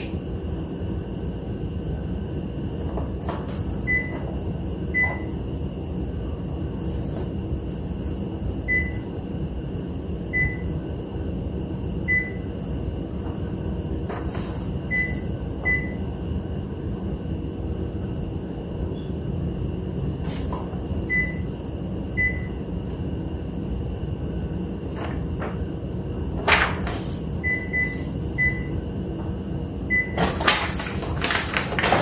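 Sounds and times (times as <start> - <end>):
low printer hum: 0.0 - 32.0.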